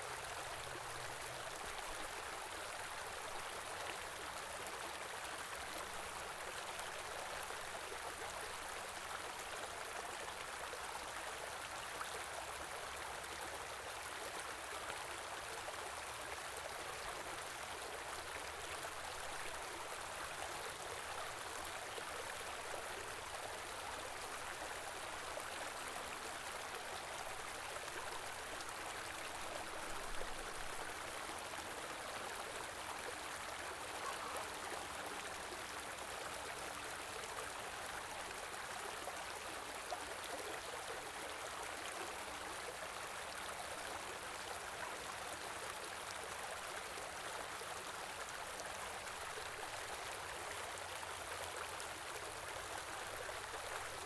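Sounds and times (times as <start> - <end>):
small river flowing: 0.0 - 54.0.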